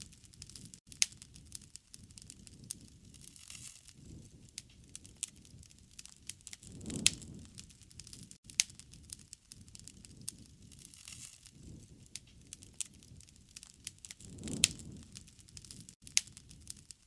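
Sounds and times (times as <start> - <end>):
campfire crackling and popping: 0.0 - 17.0
low rush of flame: 0.0 - 17.0.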